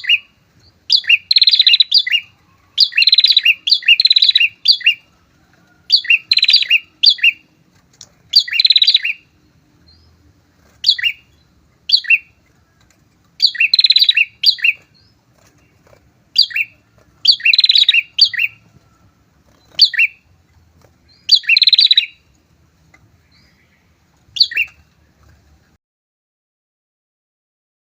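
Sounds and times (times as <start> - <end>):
bird chirps: 0.0 - 7.6, 8.2 - 25.8
birds chattering: 0.0 - 25.8.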